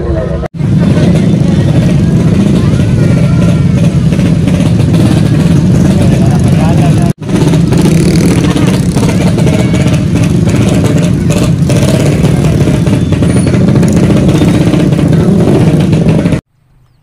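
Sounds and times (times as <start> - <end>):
scooters and cars in traffic: 0.0 - 17.0.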